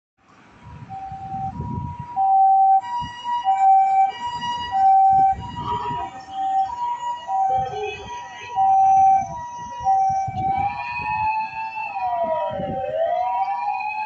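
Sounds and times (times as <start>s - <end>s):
two-tone ambulance siren: 0.6s - 14.0s.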